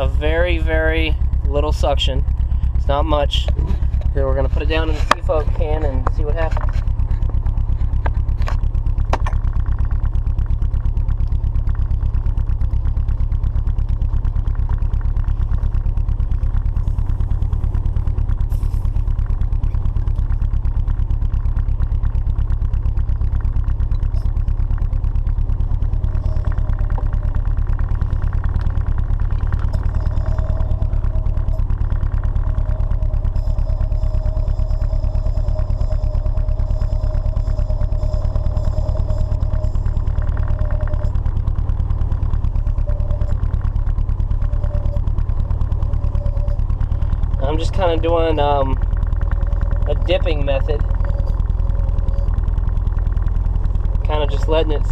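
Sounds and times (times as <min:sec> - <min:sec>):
car engine idling: 0:00.0 - 0:54.9
thin steady whine: 0:00.0 - 0:54.9.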